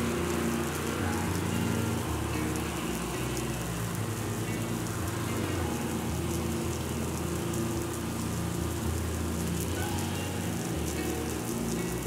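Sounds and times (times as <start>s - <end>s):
sprinkler spray pattering on concrete: 0.0s - 12.0s.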